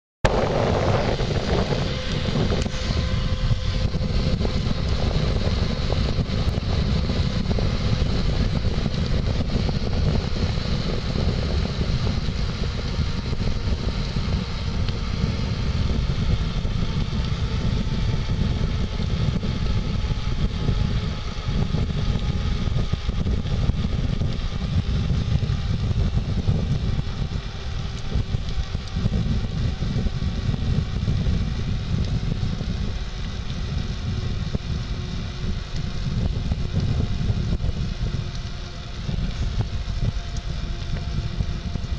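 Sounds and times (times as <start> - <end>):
bicycle tyres on asphalt: 0.2 - 41.9
wind rumble on microphone: 0.2 - 41.9.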